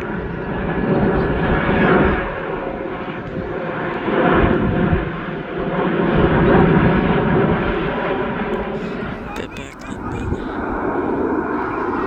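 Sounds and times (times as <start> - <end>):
airliner engines roaring: 0.0 - 12.0.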